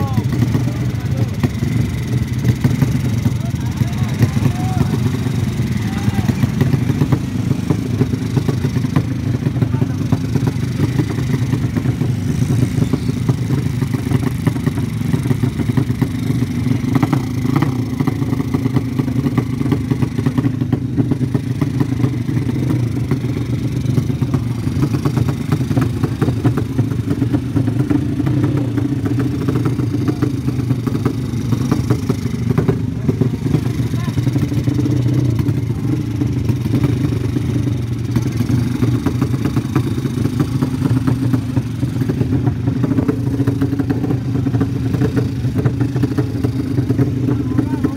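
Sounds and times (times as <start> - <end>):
motorcycle engines running: 0.0 - 47.9.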